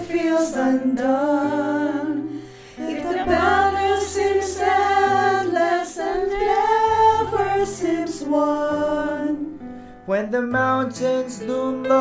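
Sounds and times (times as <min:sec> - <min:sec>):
voices singing worship song: 0:00.0 - 0:12.0.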